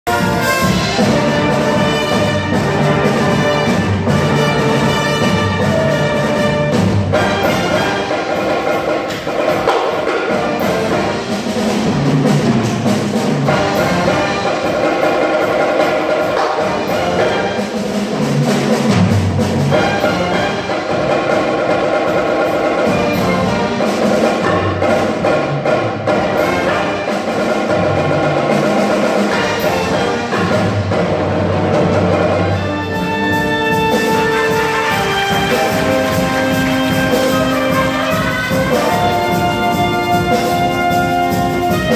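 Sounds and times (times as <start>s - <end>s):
wind band playing: 0.0s - 41.9s
percussion strikes: 0.1s - 41.9s.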